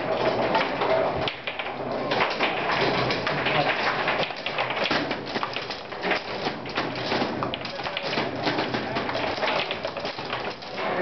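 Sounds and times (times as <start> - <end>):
ball knocking plastic players: 0.0 - 11.0
rods rattling: 0.0 - 11.0.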